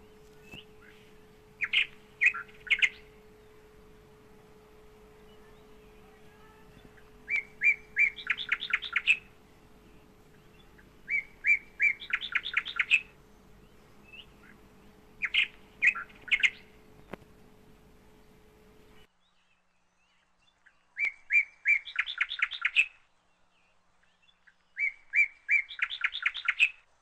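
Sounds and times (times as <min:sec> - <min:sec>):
bird singing: 0:00.0 - 0:26.9
faint steady hum: 0:00.0 - 0:27.0.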